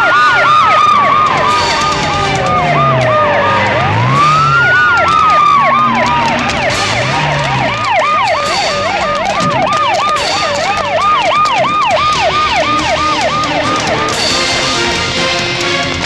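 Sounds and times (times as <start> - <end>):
fainter higher siren: 0.0 - 15.1
police siren sweeping: 0.0 - 16.0.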